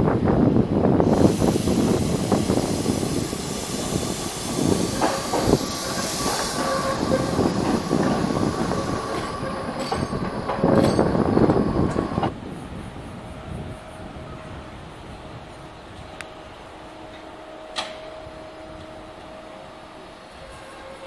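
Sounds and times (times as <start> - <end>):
tram running rumble and hiss: 0.0 - 21.0.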